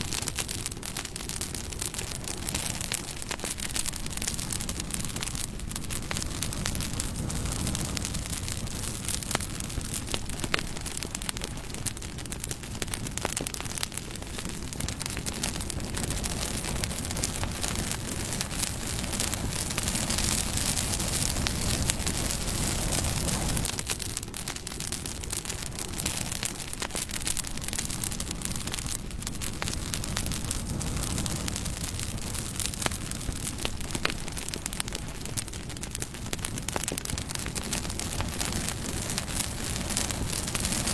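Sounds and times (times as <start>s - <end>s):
fire crackling: 0.0s - 40.9s
low rumble of flames: 0.0s - 40.9s.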